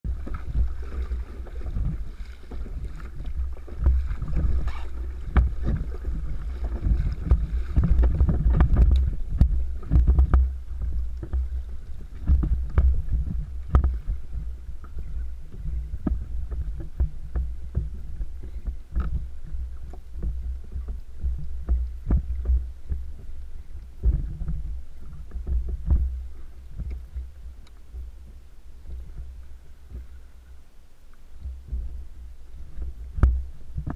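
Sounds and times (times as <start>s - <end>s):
wind and water rumble: 0.0s - 33.9s.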